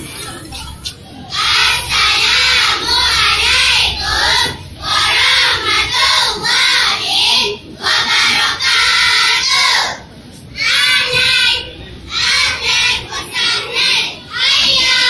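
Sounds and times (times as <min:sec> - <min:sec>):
young voices chanting in unison: 0:01.3 - 0:15.0.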